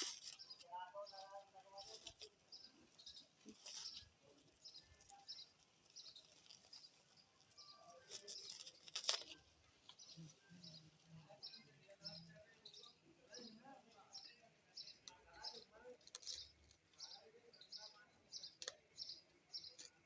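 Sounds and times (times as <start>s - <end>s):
small bird chirping: 0.0s - 20.0s.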